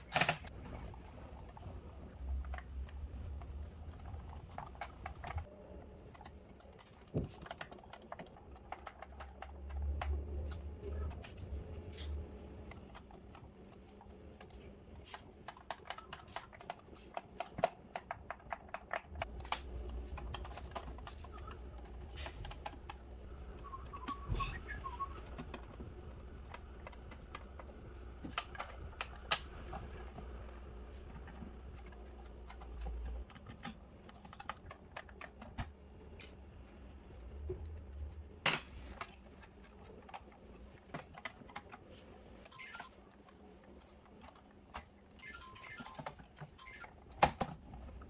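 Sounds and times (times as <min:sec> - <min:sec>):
small parts clicking and tapping: 0:01.2 - 0:48.0.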